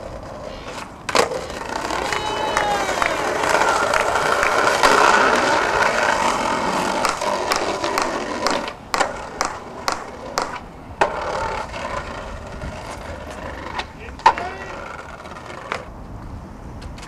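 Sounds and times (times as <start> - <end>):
skateboard wheels clacking on joints: 0.0 - 17.0
skateboard wheels rolling on concrete: 0.0 - 17.0.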